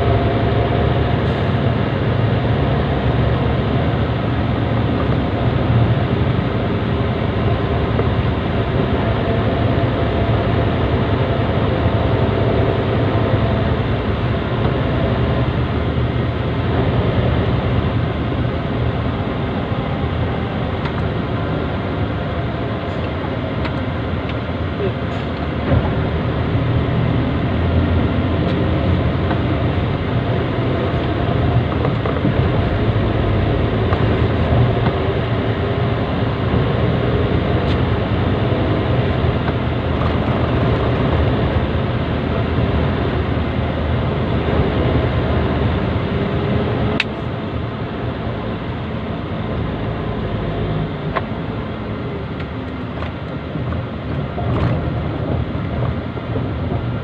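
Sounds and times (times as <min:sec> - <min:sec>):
vehicle engine drone: 0:00.0 - 0:57.0.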